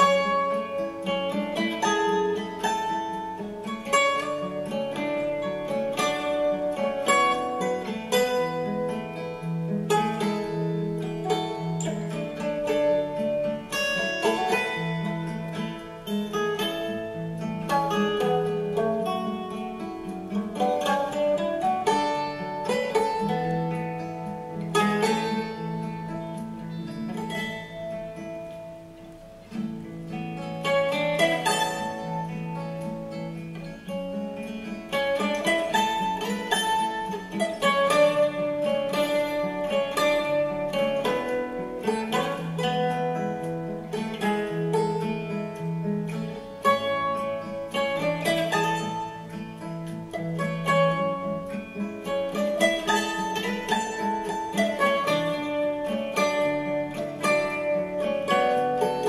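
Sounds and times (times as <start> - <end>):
plucked acoustic guitar: 0.0 - 59.0.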